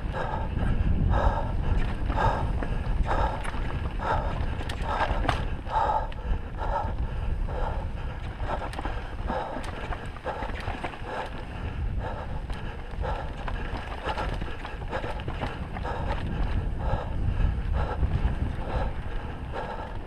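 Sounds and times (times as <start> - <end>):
bike rattling clicks: 0.0 - 20.0
bike tyres rolling over dirt: 0.0 - 20.0
wind rushing over microphone: 0.0 - 20.0.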